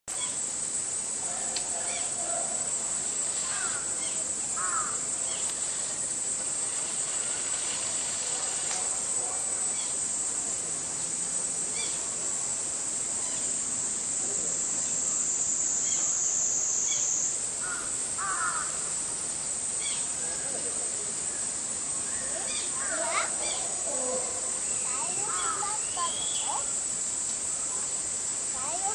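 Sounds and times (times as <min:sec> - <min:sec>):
cicadas buzzing: 0:00.1 - 0:28.9.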